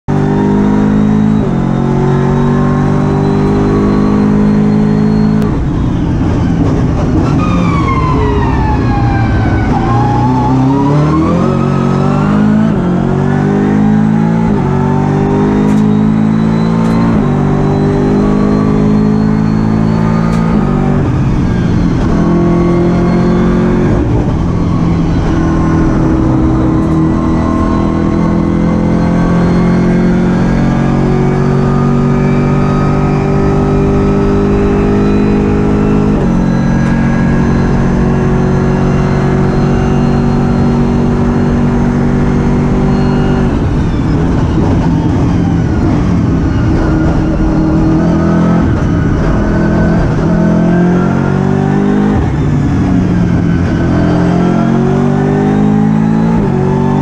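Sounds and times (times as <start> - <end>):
race car engine accelerating: 0.1 - 57.0.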